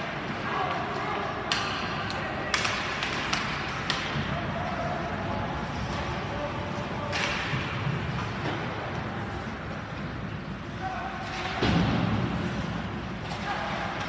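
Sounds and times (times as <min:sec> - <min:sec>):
hockey sticks and puck clacking: 0:00.0 - 0:14.0.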